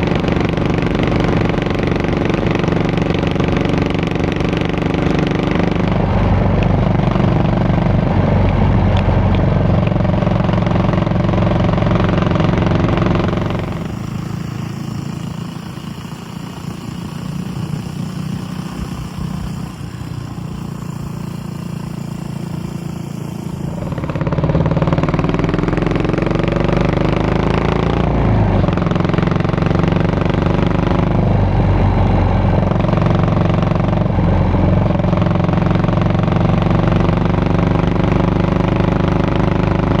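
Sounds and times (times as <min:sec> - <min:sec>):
motorcycle engine revving: 0:00.0 - 0:40.0
motorcycle engine running: 0:00.0 - 0:40.0.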